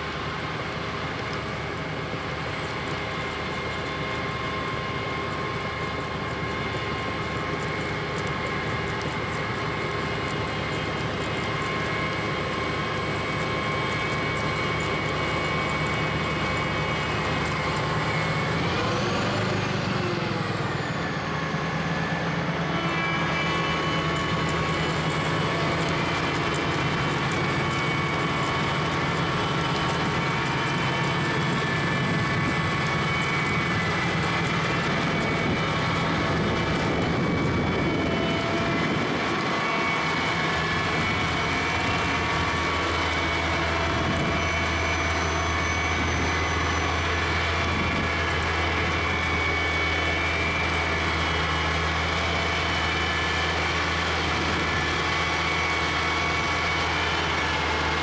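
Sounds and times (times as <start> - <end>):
snow blower engine droning: 0.0 - 58.0.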